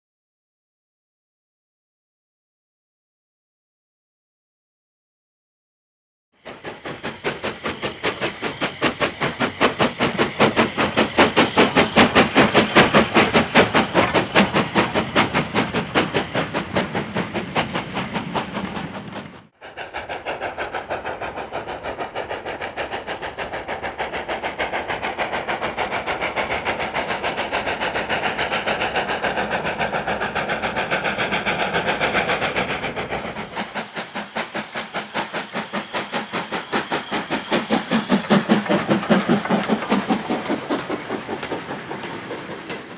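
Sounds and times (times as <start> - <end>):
steam locomotive exhaust beating: 6.4 - 42.9.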